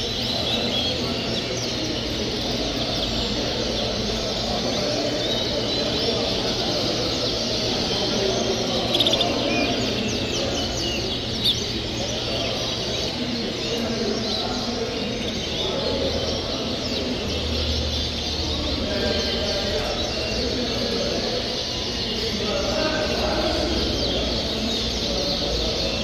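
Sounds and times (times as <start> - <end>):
canaries chirping and trilling: 0.0 - 26.0
low background noise: 0.0 - 26.0.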